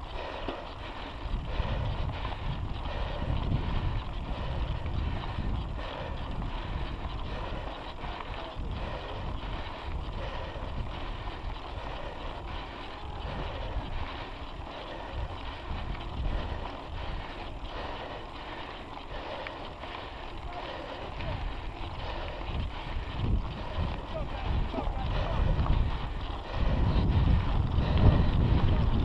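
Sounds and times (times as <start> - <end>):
wind rushing over microphone: 0.0 - 18.2, 20.4 - 29.0
bike tyre rolling on asphalt: 0.0 - 29.0.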